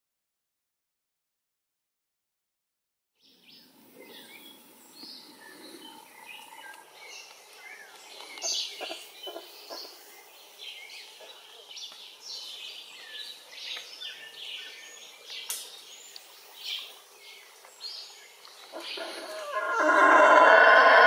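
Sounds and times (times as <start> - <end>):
birds chirping and calling: 3.2 - 21.0.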